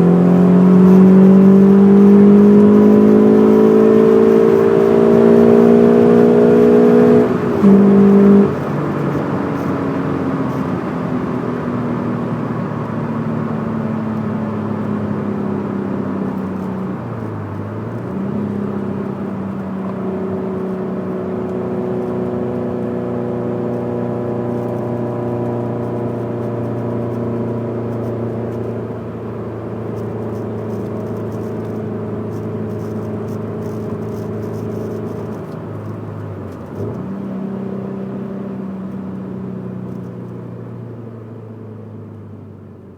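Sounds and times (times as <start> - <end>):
engine rumble revving: 0.0 - 42.6.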